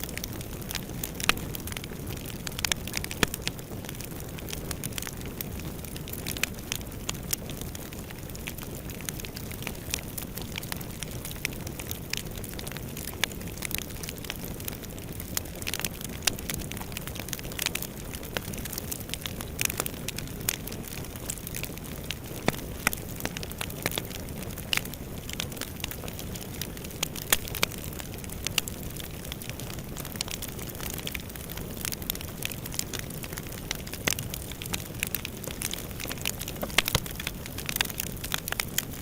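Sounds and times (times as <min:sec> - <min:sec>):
fire burning with crackles: 0:00.0 - 0:39.0.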